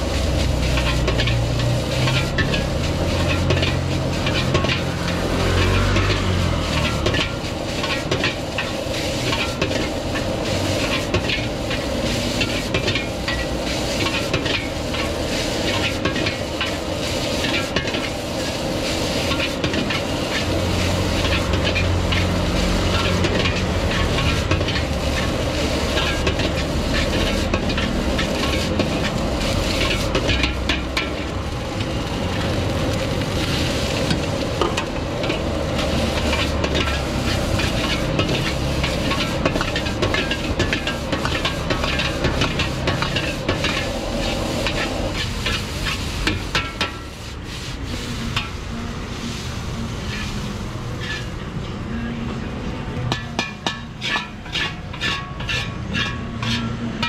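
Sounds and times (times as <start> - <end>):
food sizzling: 0.0 - 52.1, 53.0 - 57.0
ladle scraping a wok: 0.0 - 52.3, 53.0 - 57.0
gas burner rushing: 0.0 - 57.0.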